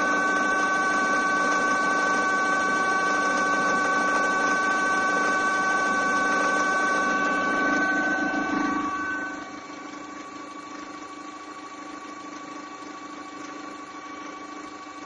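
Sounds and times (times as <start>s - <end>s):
humming whine under bonnet: 0.0s - 15.0s.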